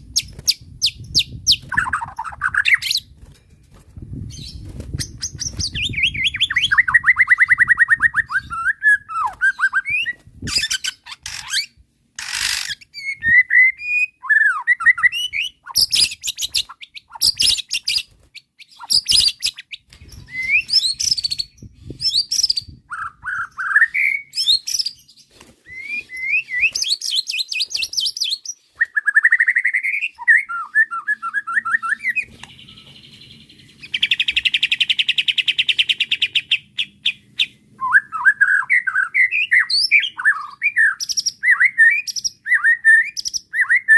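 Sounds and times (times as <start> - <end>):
bird singing varied song: 0.0 - 3.2, 4.1 - 43.9.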